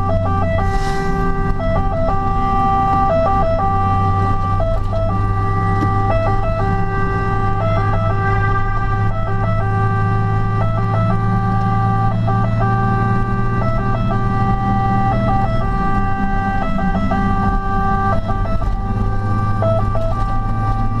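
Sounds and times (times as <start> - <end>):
fire engine two-tone siren: 0.0 - 21.0
truck engine drone: 0.0 - 21.0.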